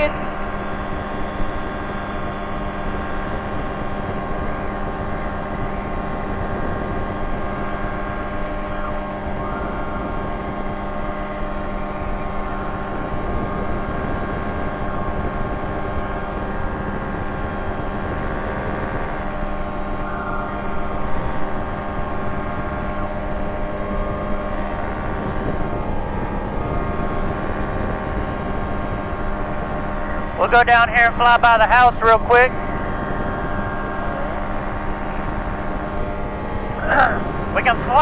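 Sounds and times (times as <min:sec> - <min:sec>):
aircraft engine and propeller drone: 0:00.0 - 0:38.0.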